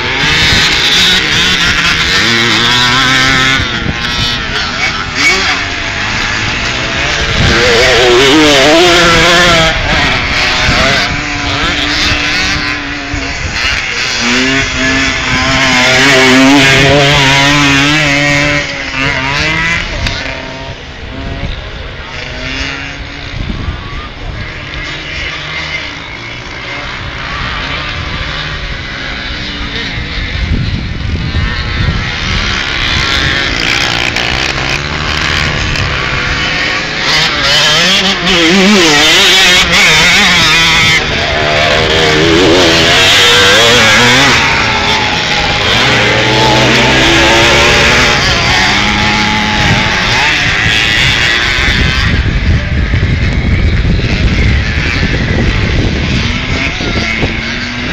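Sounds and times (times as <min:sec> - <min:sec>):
motocross bikes revving: 0:00.0 - 0:57.9.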